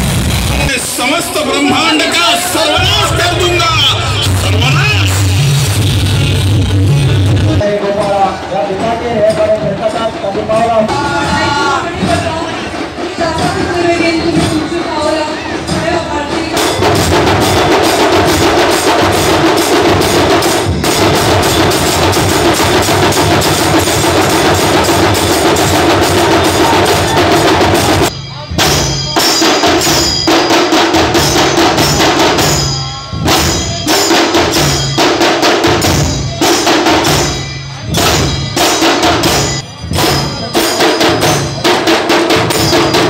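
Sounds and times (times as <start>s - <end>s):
large barrel drums beaten: 0.0s - 43.0s
small sharp drums: 0.0s - 43.0s.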